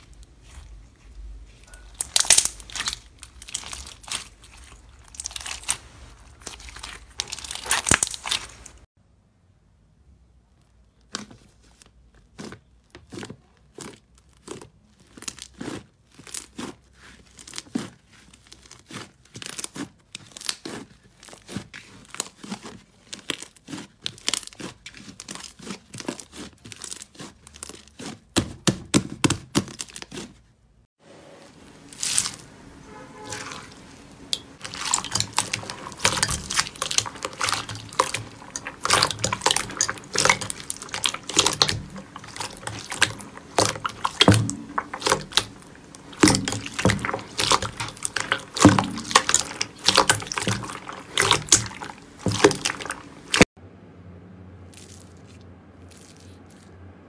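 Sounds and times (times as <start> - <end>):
beaded slime crackling: 0.0 - 8.9, 11.2 - 30.4, 31.6 - 53.6, 54.7 - 56.7
slime crackling and popping: 1.5 - 8.9, 11.0 - 30.3, 31.8 - 32.6, 33.3 - 53.5.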